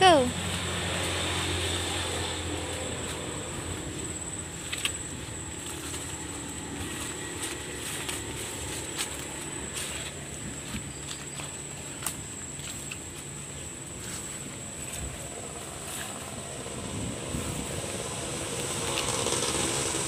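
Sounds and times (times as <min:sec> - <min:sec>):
distant vehicle engine hum: 0:00.0 - 0:20.0
footsteps crunching through dry leaves: 0:00.1 - 0:19.2.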